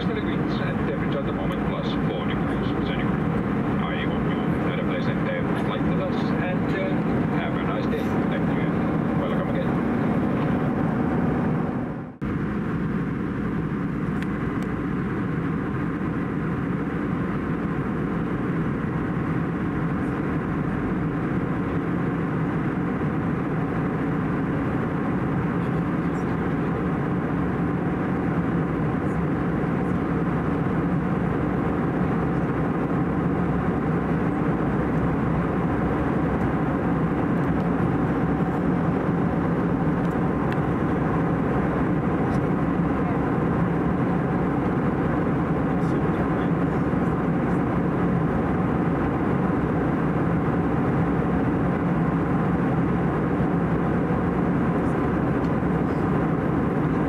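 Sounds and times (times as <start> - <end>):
airflow rushing over fuselage: 0.0 - 57.0
jet engines droning: 0.0 - 57.0.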